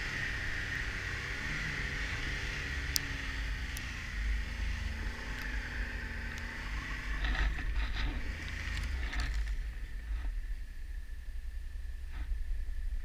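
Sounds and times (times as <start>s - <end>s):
snowmobile engine rumble: 0.0s - 13.0s.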